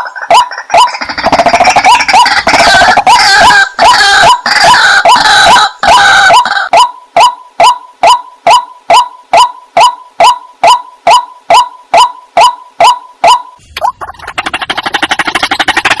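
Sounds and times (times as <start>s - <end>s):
waterhen calling: 0.0s - 16.0s.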